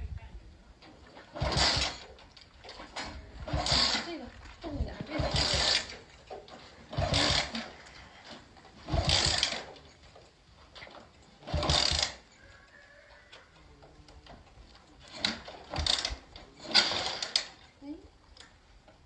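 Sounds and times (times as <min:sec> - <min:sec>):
motorcycle kick-start clatter: 0:00.8 - 0:19.0.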